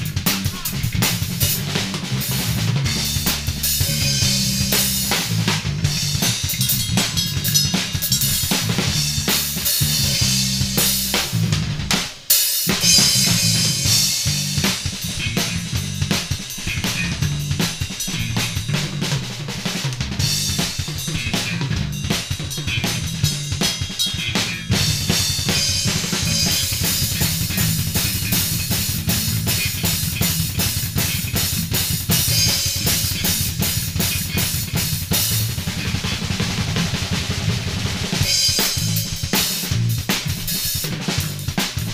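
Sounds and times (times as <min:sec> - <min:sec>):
bass guitar line: 0:00.0 - 0:41.9
drum kit playing: 0:00.0 - 0:41.9.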